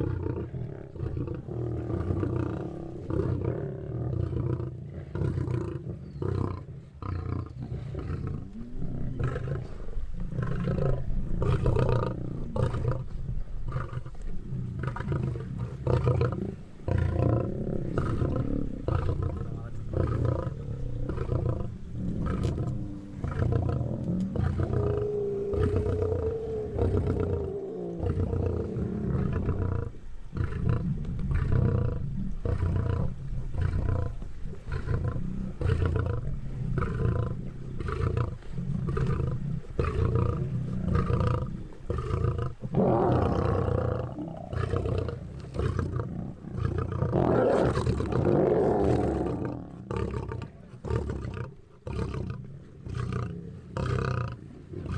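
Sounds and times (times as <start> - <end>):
lions growling: 0.0 - 54.9
lions snarling: 0.0 - 54.9.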